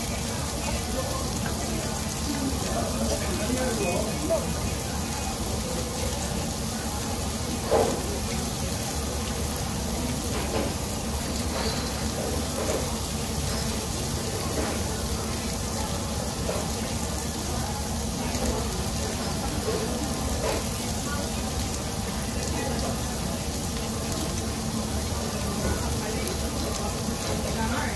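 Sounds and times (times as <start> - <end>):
faint voices: 0.0 - 27.9
meat sizzling on a grill: 0.0 - 27.9.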